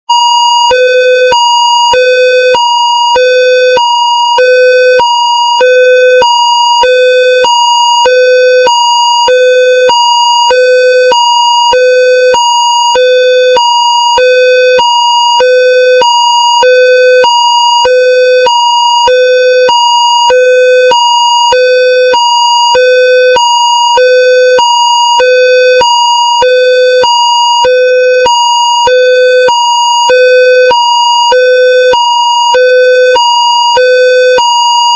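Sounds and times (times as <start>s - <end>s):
level crossing two-tone alarm: 0.1s - 34.9s.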